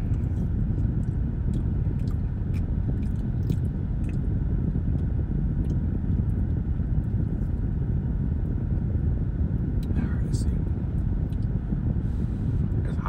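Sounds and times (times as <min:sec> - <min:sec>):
low rumble in car cabin: 0:00.0 - 0:13.0.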